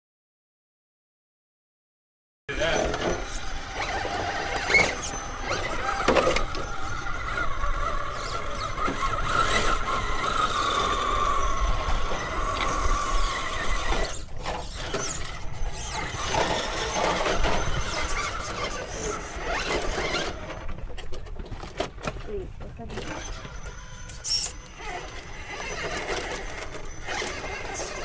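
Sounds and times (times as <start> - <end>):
electric motor whining: 2.5 - 28.0.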